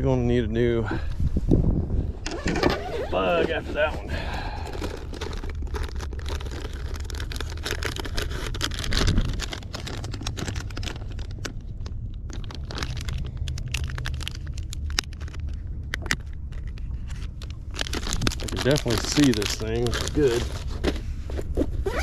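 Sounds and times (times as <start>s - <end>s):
low rumble: 0.0s - 21.9s
plastic packages crinkling: 3.0s - 22.0s.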